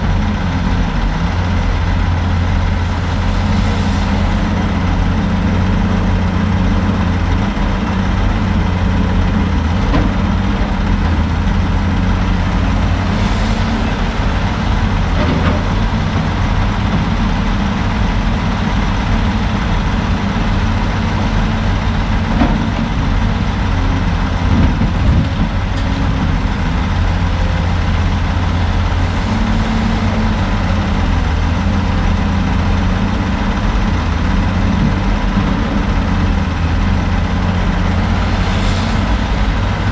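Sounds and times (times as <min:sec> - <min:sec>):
log loader diesel engine: 0:00.0 - 0:39.9
truck engine idling: 0:00.0 - 0:39.9.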